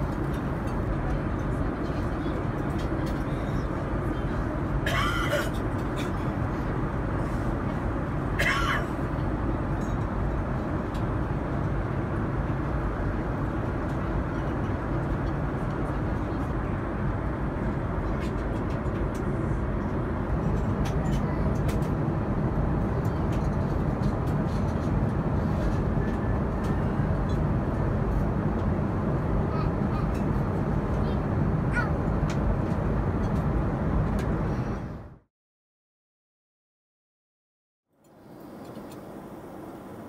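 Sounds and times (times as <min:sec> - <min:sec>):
airliner cabin engine rush: 0:00.0 - 0:35.3, 0:38.0 - 0:40.0.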